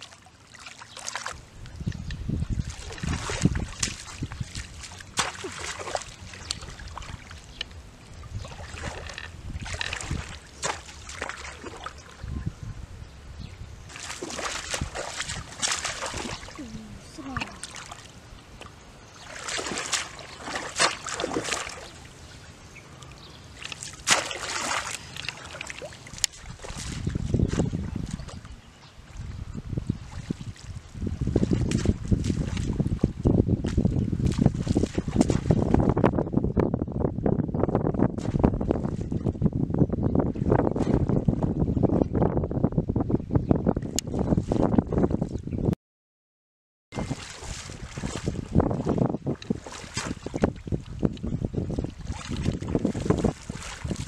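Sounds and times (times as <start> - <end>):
muddy water splashing: 0.0 - 12.5, 13.9 - 36.2, 38.1 - 39.4, 40.3 - 41.6, 47.0 - 54.0.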